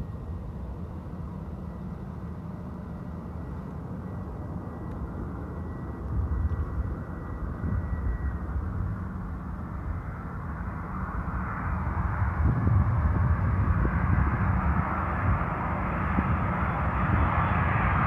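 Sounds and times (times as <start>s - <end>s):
distant jet engines rumbling: 0.0s - 18.0s
faint thin whine: 0.0s - 18.0s.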